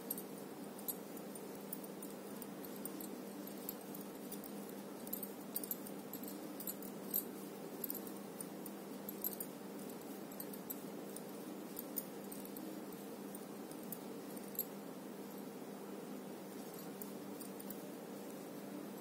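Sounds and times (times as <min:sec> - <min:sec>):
metal bangles clicking and jingling: 0:00.0 - 0:14.7, 0:16.5 - 0:18.4
steady low hum: 0:00.0 - 0:19.0.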